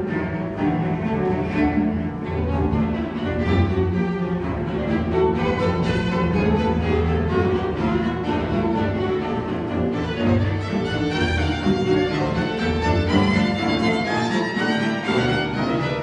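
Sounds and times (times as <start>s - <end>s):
sustained cellos and basses: 0.0s - 16.0s
violins playing: 0.0s - 16.0s.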